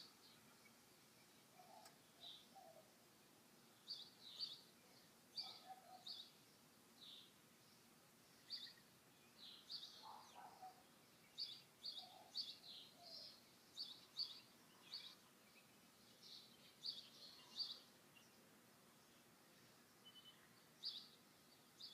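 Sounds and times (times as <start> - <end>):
outdoor background noise: 0.0 - 21.9
small birds chirping: 0.0 - 21.9.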